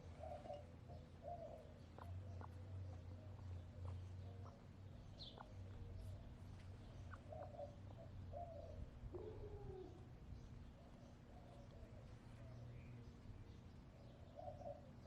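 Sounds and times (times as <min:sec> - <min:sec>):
wild bird chirp: 0:00.0 - 0:13.0.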